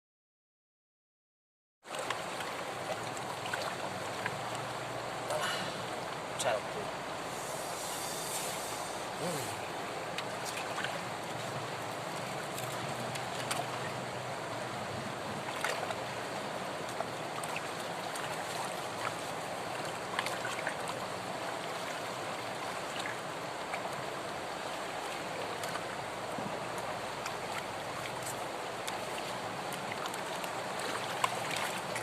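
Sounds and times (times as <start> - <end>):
river water rushing: 1.9 - 32.0.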